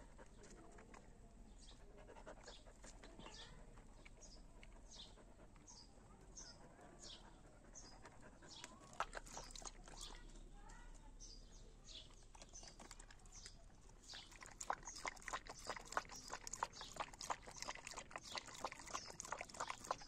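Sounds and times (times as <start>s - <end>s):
faint bird chirping: 0.2s - 20.0s.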